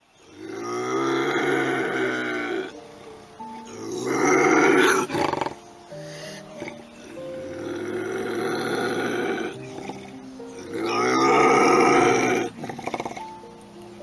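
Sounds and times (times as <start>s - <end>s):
background music with held notes: 0.0s - 14.0s
animal roaring: 0.3s - 2.8s, 3.6s - 13.4s.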